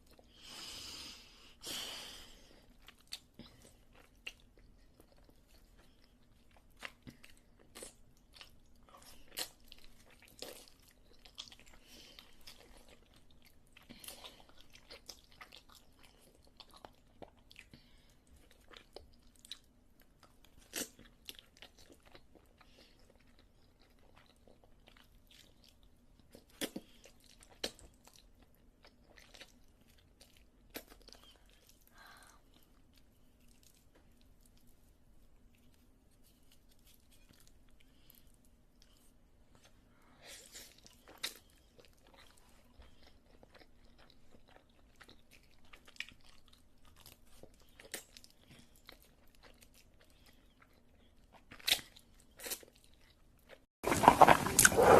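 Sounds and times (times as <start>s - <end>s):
person chewing food: 2.4s - 54.9s.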